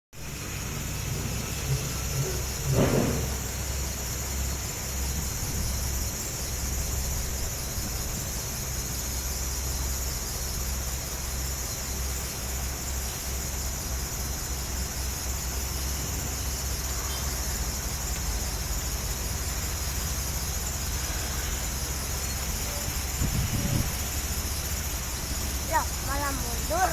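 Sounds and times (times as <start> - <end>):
diesel engine low rumble: 0.2 - 26.9
high-pitched hiss: 0.2 - 26.9.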